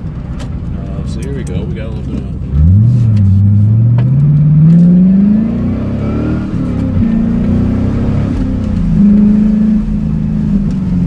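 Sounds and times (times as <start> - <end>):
loud car exhaust accelerating: 0.0 - 11.0.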